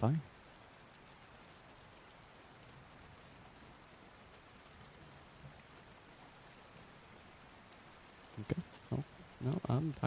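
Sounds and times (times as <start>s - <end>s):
light raindrop ticks: 0.0s - 10.0s
rain hissing: 0.0s - 10.0s.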